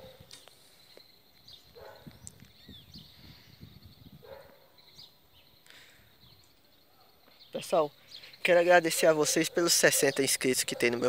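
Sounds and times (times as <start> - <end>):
bird chirps: 0.0 - 11.0.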